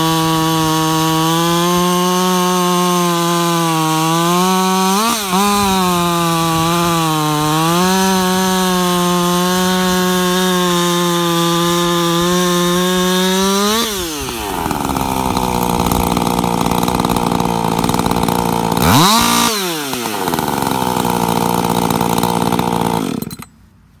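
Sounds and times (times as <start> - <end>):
chainsaw rev: 0.0 - 23.5
chainsaw cutting log: 0.0 - 23.6
chainsaw idling: 0.0 - 23.6.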